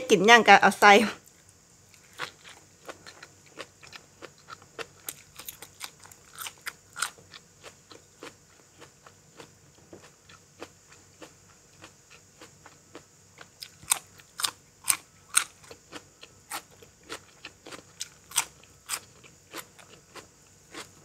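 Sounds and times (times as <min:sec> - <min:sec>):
person chewing crunchy food: 0:01.4 - 0:21.0.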